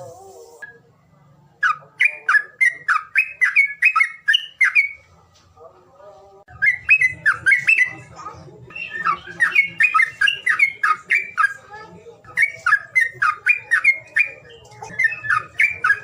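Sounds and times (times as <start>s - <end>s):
songbird singing: 0.0s - 5.2s, 6.5s - 16.0s.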